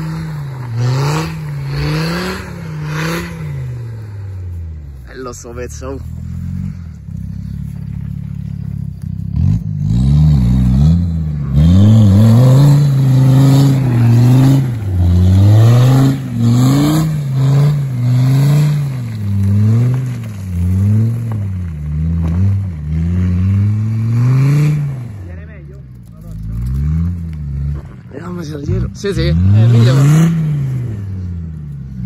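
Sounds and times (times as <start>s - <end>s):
off-road vehicle engine revving: 0.0s - 32.0s.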